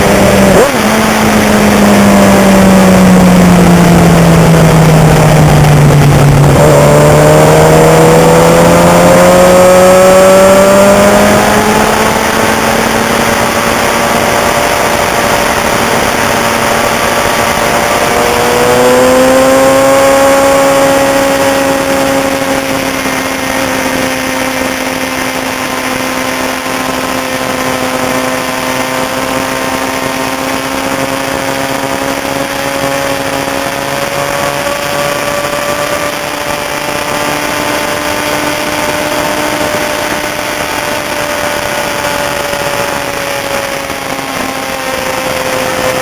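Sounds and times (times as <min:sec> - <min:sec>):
racing motorcycle engine running: 0:00.0 - 0:46.0
steady rush of noise: 0:00.0 - 0:46.0.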